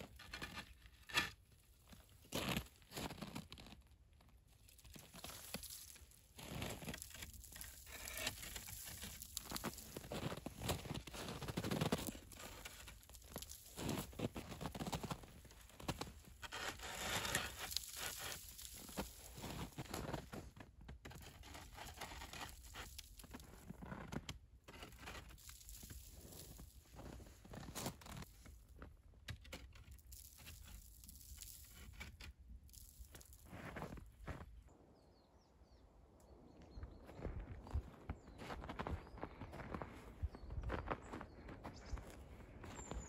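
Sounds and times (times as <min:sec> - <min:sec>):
snow and ice crunching: 0:01.8 - 0:34.8, 0:36.5 - 0:43.0.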